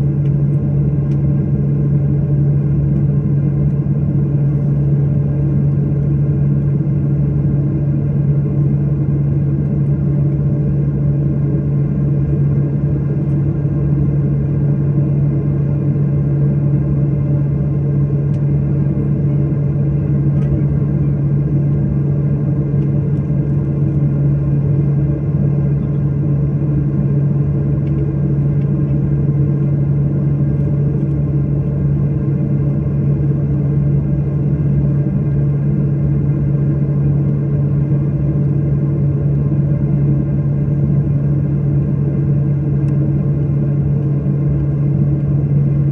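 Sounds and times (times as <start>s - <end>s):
airliner engine drone in cabin: 0.0s - 45.9s.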